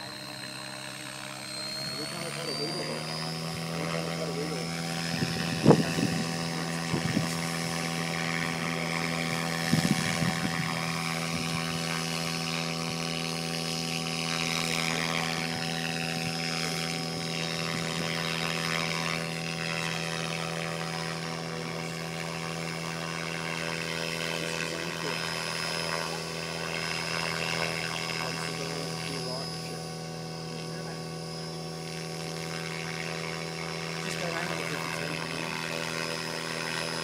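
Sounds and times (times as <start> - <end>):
motor whine: 0.0 - 37.0
rc helicopter rotor hum: 0.0 - 37.0.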